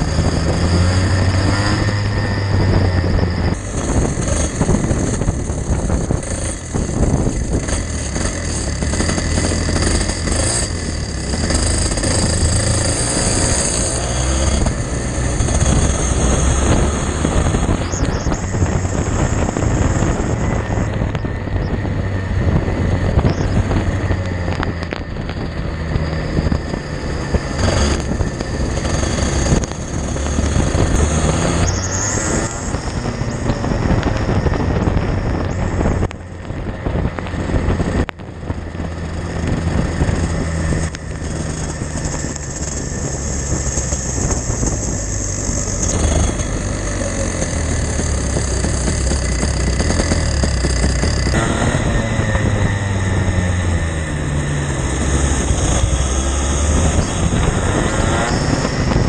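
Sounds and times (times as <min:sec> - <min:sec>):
racing kart engine: 0:00.0 - 0:59.0.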